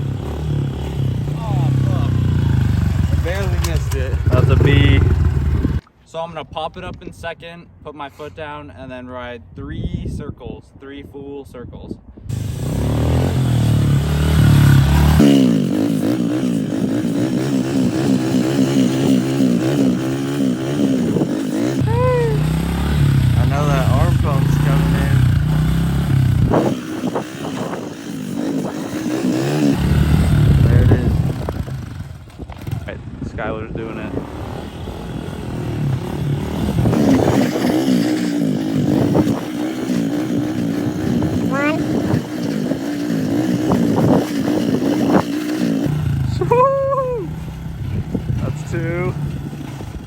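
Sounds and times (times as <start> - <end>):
motorbike engine revving: 0.0 - 5.8, 12.3 - 50.0.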